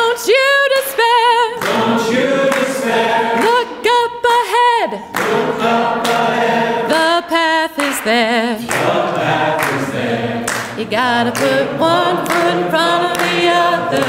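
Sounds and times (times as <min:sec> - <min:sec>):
congregation singing unaccompanied: 0:00.0 - 0:14.0.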